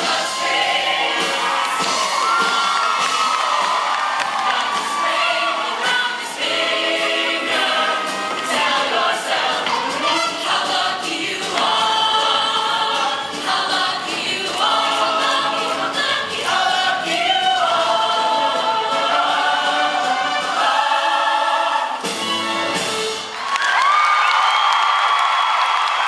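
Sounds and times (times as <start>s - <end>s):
choir singing: 0.0s - 22.2s.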